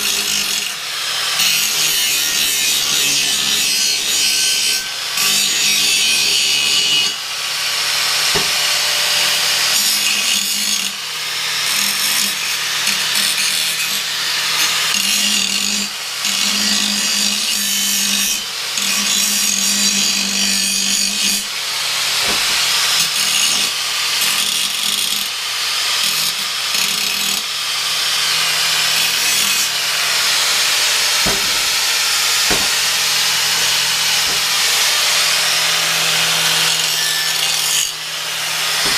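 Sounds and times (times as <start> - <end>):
angle grinder grinding steel: 0.0 - 11.0, 11.6 - 38.9.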